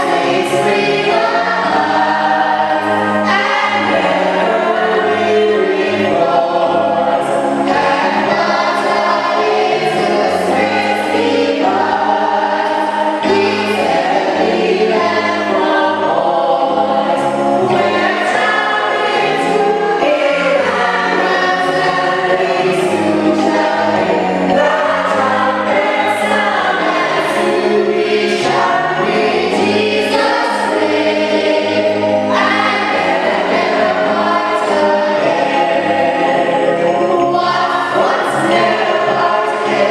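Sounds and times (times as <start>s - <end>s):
choir singing church music: 0.0s - 39.9s
sustained low accompanying notes: 0.0s - 39.9s.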